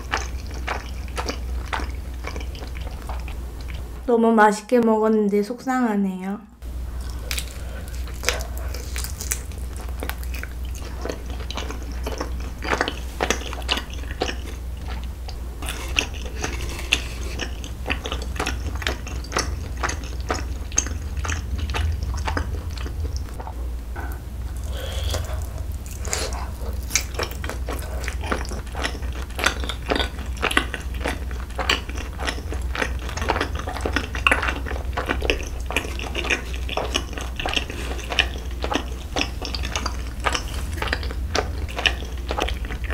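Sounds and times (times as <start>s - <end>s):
chewing and biting food: 0.0s - 3.9s, 7.0s - 42.9s
steady low hum: 0.0s - 42.9s.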